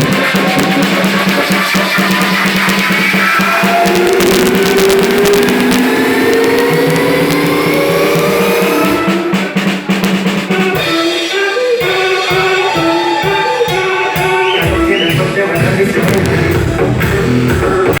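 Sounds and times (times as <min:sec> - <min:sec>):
drum kit playing: 0:00.0 - 0:18.0
electronic dance backing track: 0:00.0 - 0:18.0.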